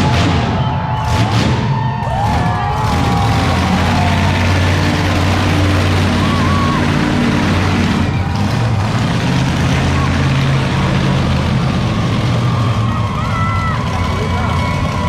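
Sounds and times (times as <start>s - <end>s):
big engine low rumble: 0.0s - 15.0s.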